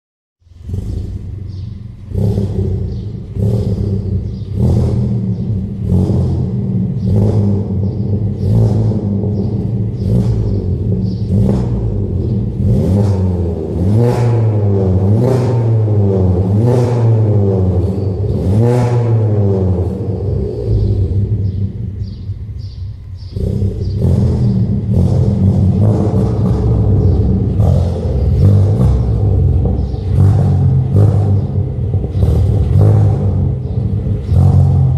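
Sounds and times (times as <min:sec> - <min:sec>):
car engine revving in a tunnel: 0:00.4 - 0:34.9
exhaust cracks: 0:00.5 - 0:34.9.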